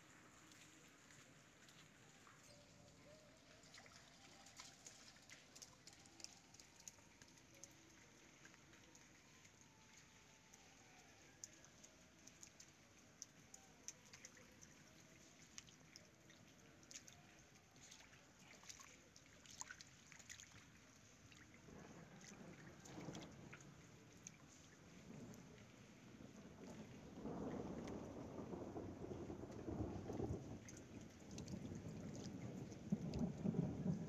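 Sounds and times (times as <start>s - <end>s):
light raindrops: 0.0s - 34.0s
rainwater dripping: 0.0s - 34.0s.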